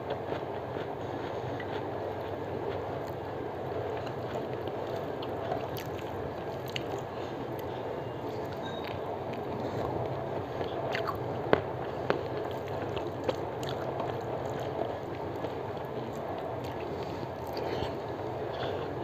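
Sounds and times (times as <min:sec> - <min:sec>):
chewing: 0:00.1 - 0:19.0.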